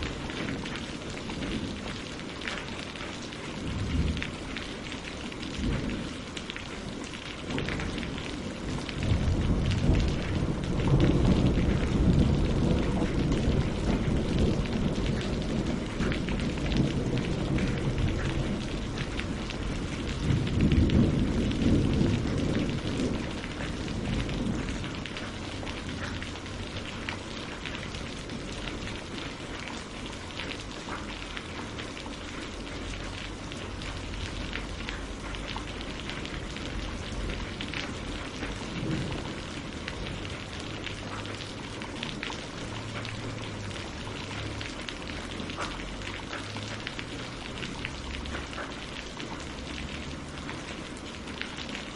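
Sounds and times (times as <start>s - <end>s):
rain on leaves and water: 0.0s - 51.9s.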